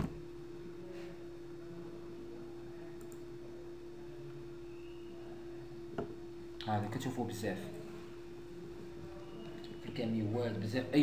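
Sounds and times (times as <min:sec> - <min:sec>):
faint room noise: 0:00.0 - 0:11.0
steady electrical hum: 0:00.0 - 0:11.0.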